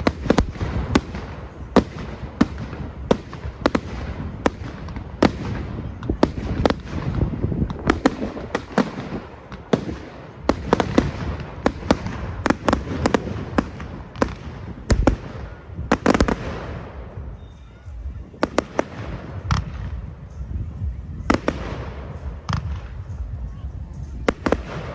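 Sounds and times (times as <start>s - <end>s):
fireworks bangs and cracks: 0.0s - 17.4s, 18.0s - 23.4s, 24.0s - 24.9s.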